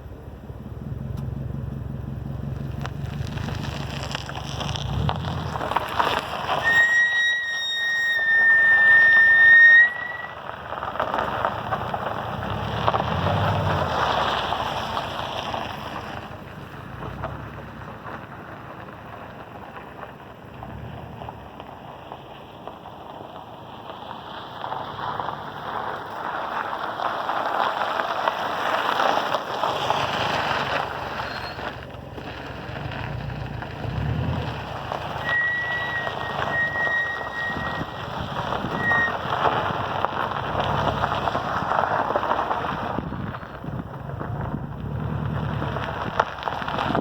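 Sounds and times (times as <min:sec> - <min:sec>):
brake squeal: 0:00.0 - 0:47.0
car tyre road and wind noise: 0:00.0 - 0:47.0.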